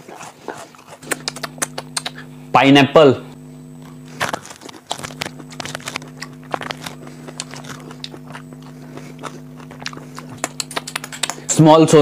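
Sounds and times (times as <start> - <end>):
steady low hum: 0.0 - 12.0
chewing fruit mouth clicks: 0.1 - 2.3, 3.8 - 11.5.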